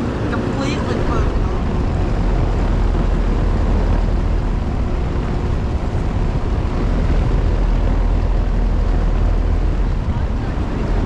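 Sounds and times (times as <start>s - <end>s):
deep rumble: 0.0s - 11.0s
heat pump fan rushing: 0.0s - 11.0s.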